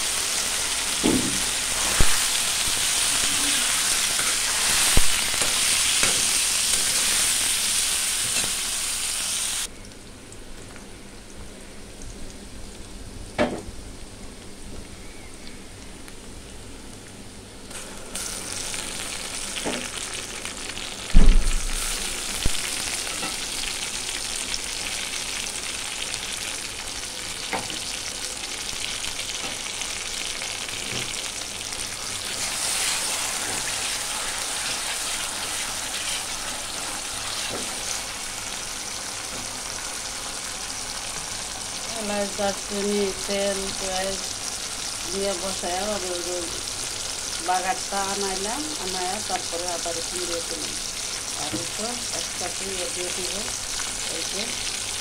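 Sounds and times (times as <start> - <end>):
oil sizzling in a pan: 0.0 - 11.3, 12.0 - 55.0.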